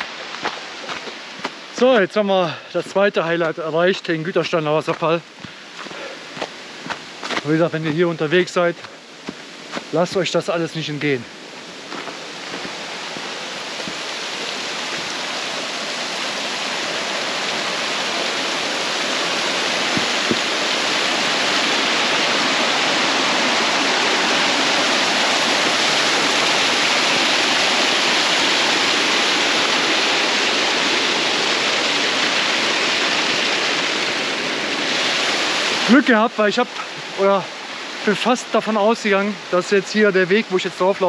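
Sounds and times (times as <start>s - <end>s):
waterfall roaring: 0.0s - 41.0s.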